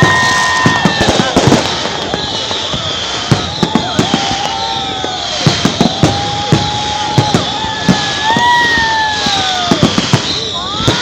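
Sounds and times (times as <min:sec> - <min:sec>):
crackling hiss of fireworks: 0:00.0 - 0:11.0
firework bangs and pops: 0:00.0 - 0:11.0
firework whistles: 0:00.0 - 0:11.0.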